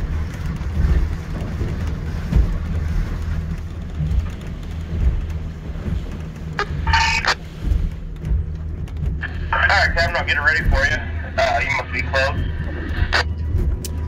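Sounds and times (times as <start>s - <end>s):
boat motor running: 0.0s - 14.0s
water noise: 0.0s - 14.0s.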